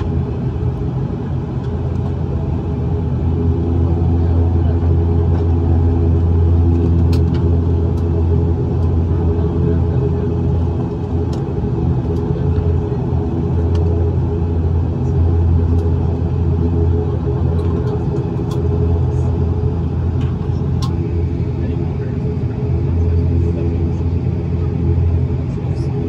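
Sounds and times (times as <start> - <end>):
turboprop cabin drone: 0.0 - 26.0.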